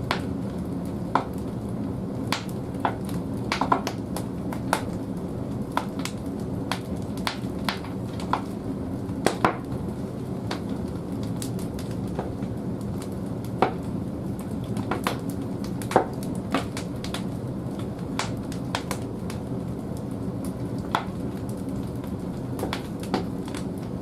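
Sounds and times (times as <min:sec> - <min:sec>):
burning wood crackling: 0:00.0 - 0:24.0
low fire rumble: 0:00.0 - 0:24.0.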